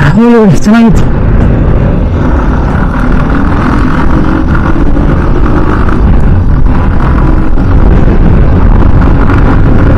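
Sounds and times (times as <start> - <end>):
engines running: 0.0 - 9.9
wind on microphone: 0.0 - 9.9.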